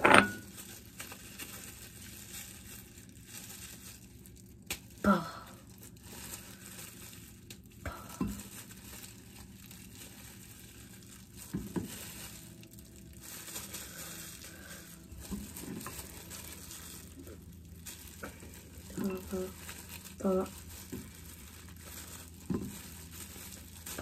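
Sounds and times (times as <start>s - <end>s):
chocolate crinkling and crushing: 0.0s - 24.0s.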